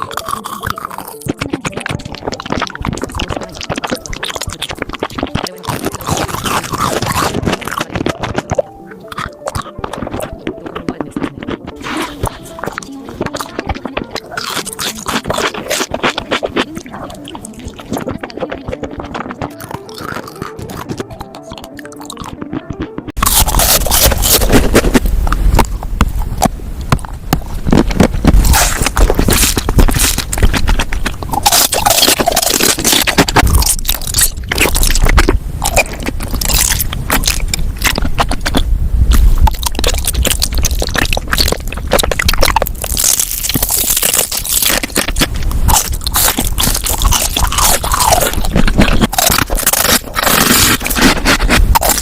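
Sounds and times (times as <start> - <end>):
food being crunched and chewed: 0.0 - 52.0.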